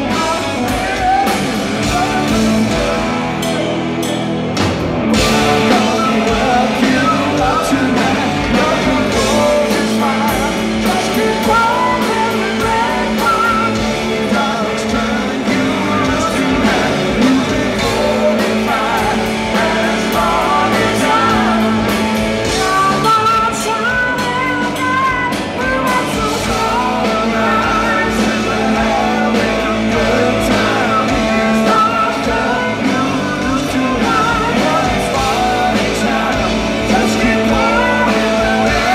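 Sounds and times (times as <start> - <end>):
live rock band playing: 0.0 - 38.9
sung lead vocal: 0.0 - 38.9.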